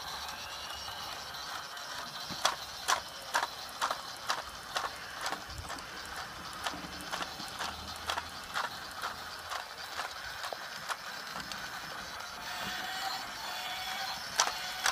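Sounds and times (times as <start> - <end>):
toy train mechanical clicks: 0.0 - 14.9.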